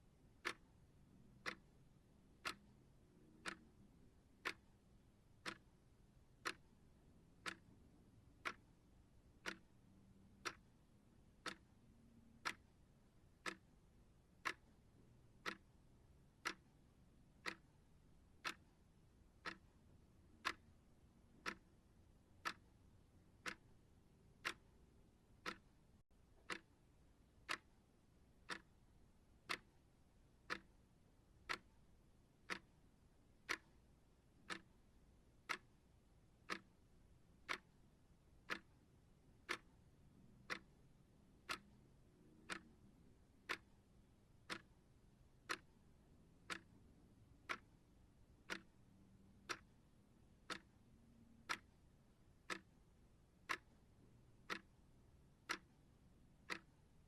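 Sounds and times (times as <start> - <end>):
clock ticking: 0.2 - 57.0.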